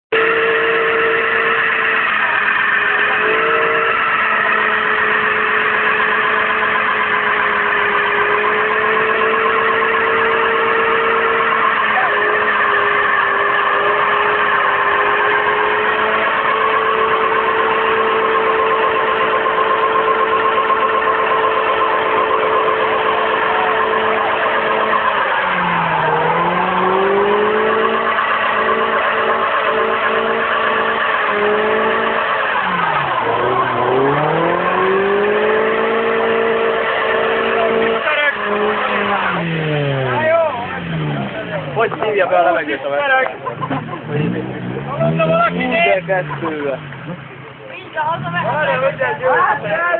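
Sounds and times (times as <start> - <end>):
car engine running: 0.1 - 49.9.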